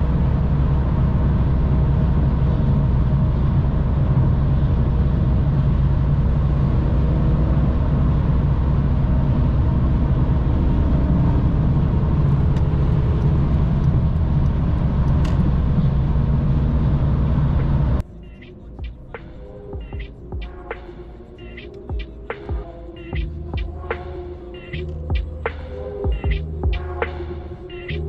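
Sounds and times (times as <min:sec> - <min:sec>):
car engine drone: 0:00.0 - 0:28.0
road noise: 0:00.0 - 0:28.0.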